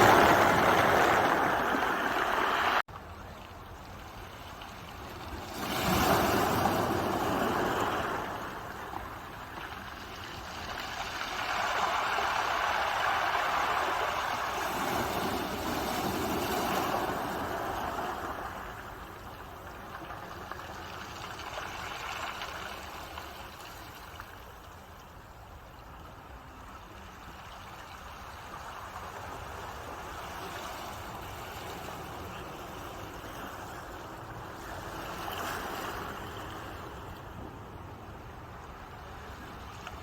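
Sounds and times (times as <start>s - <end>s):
ocean waves breaking: 0.0s - 2.9s, 4.1s - 24.0s, 28.0s - 40.0s.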